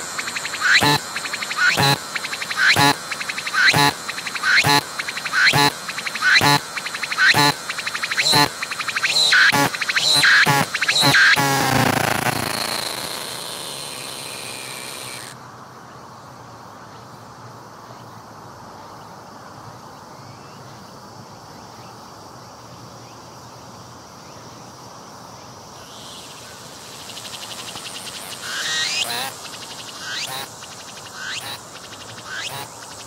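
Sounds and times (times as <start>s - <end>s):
cicadas buzzing: 0.0s - 33.0s.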